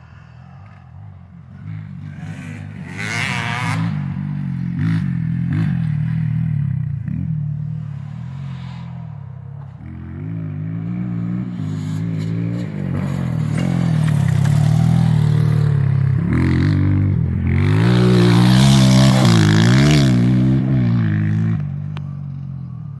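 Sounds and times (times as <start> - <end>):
motocross bike engine revving: 0.0 - 22.4.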